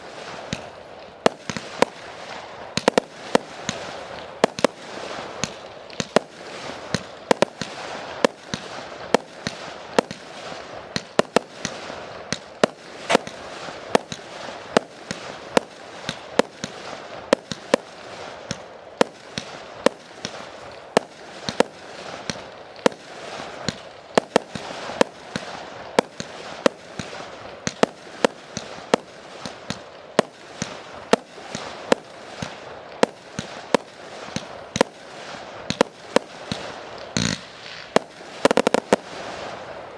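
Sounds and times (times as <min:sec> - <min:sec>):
crackling hiss: 0:00.0 - 0:39.9
fireworks bangs: 0:00.0 - 0:39.9.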